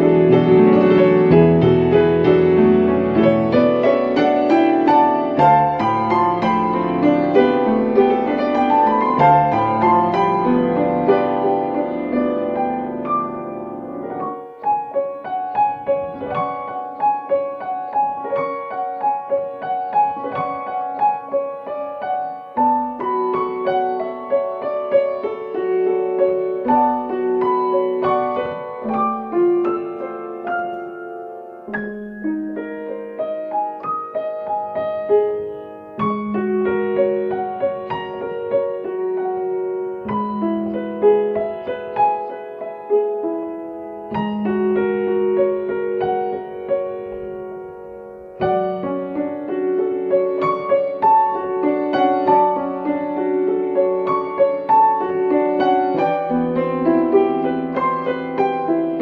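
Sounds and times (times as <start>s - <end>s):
solo piano: 0.0s - 59.0s.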